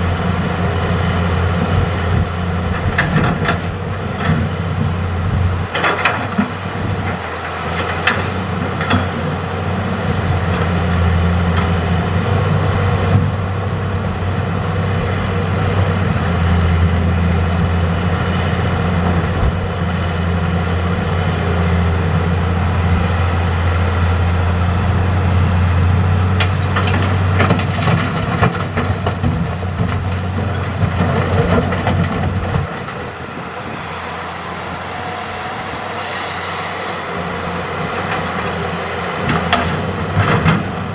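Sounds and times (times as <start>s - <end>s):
excavator diesel engine droning: 0.0s - 40.9s.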